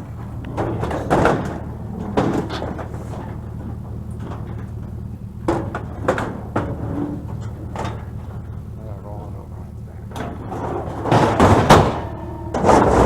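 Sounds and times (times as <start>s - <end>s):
heavy scrap clunking and scraping: 0.0s - 13.0s
steady low hum: 0.0s - 13.0s.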